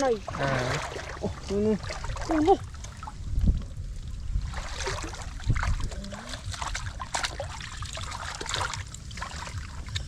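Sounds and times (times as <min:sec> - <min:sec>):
shallow water splashing: 0:00.0 - 0:03.3, 0:04.2 - 0:10.0.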